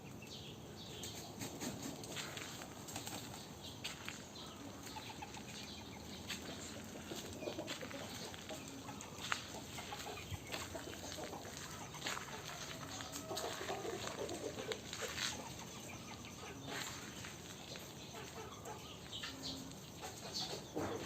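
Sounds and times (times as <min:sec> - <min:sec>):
farmyard background: 0:00.0 - 0:21.0
chickens clucking softly: 0:03.9 - 0:21.0.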